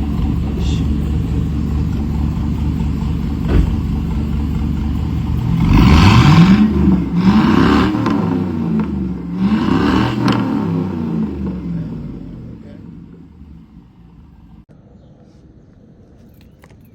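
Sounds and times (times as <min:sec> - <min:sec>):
engine idling and revving: 0:00.0 - 0:14.7.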